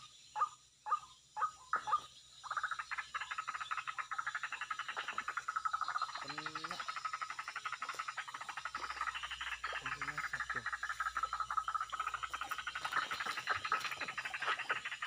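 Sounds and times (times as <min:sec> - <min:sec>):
chorus of calling animals: 0:00.0 - 0:15.0.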